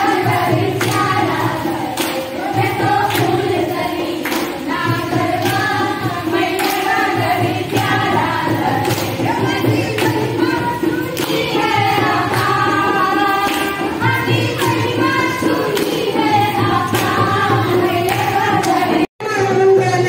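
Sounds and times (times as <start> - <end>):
hand claps: 0.0 - 19.0
women singing together: 0.0 - 20.0.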